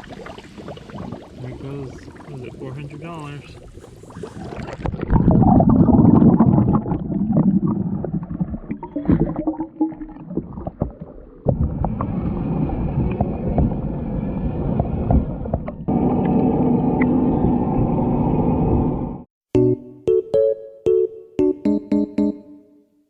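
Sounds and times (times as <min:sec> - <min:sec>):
water sloshing underwater: 0:00.0 - 0:18.6.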